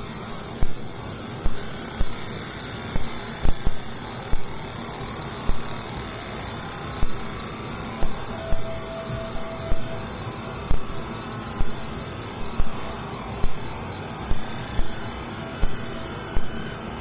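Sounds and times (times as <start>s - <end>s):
faint steady tone: 0.0s - 17.0s
laser engraver hiss and fan: 0.0s - 17.0s.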